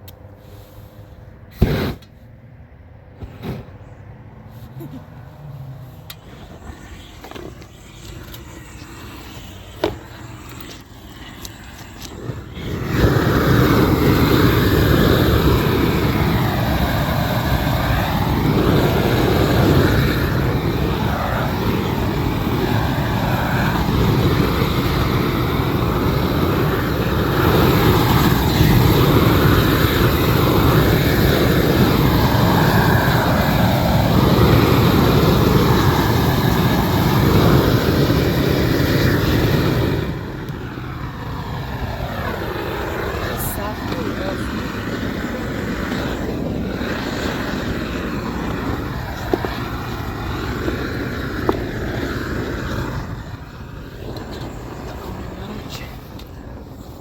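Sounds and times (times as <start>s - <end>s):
gas torch burner roaring: 0.0s - 57.0s.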